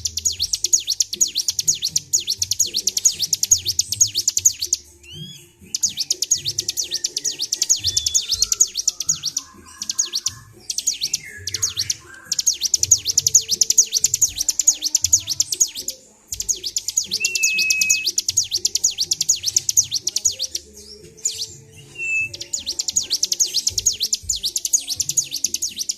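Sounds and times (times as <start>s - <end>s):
bird rapid high chirping: 0.0s - 25.9s.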